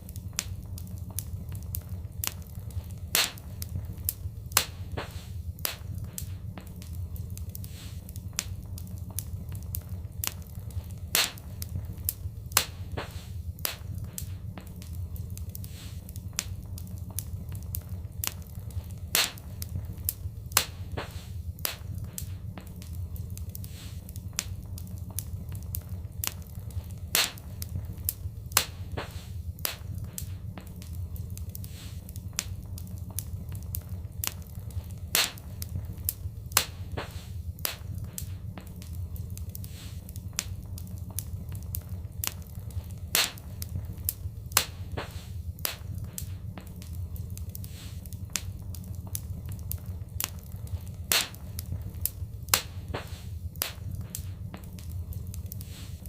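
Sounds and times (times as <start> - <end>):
fireplace fire crackling: 0.0 - 56.0
low rumble of fire: 0.0 - 56.0.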